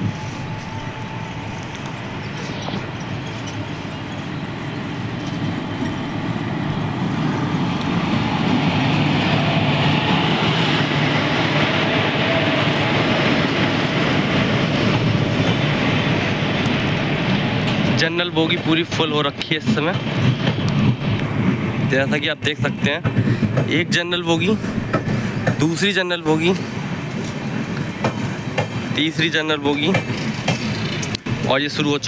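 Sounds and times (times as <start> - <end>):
passenger train rumbling past: 0.0 - 32.0.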